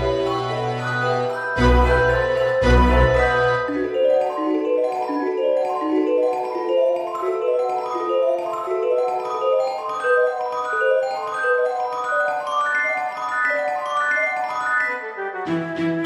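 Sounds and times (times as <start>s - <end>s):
marimba melody: 0.0s - 15.2s.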